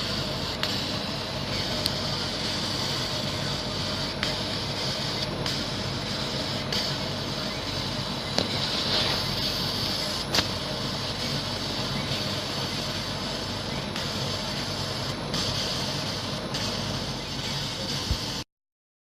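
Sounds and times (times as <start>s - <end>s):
laser cutter hiss and hum: 0.0s - 18.4s.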